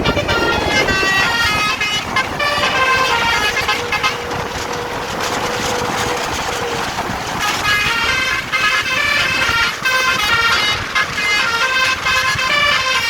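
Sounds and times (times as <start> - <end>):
multi-trumpet air horn tune: 0.0 - 13.0
rushing noise: 0.0 - 13.0.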